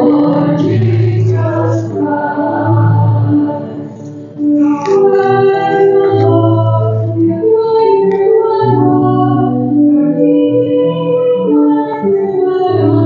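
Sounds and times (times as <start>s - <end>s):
person singing a hymn: 0.0s - 13.0s.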